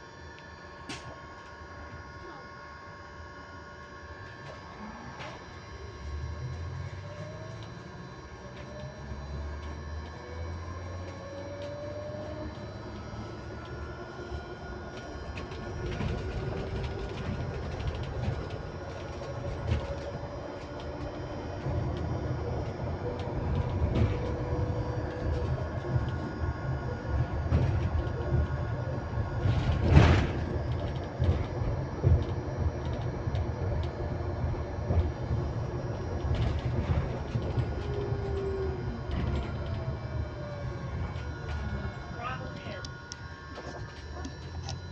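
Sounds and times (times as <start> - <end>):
electric motor whine: 0.0 - 44.9
low road rumble: 5.8 - 44.9.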